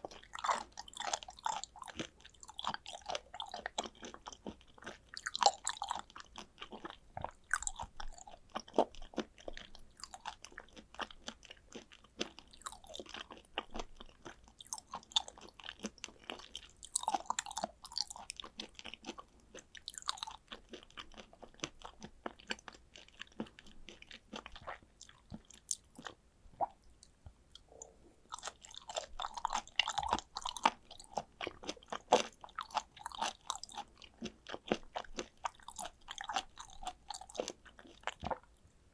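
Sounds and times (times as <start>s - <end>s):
close chewing with wet smacks: 0.0s - 38.8s.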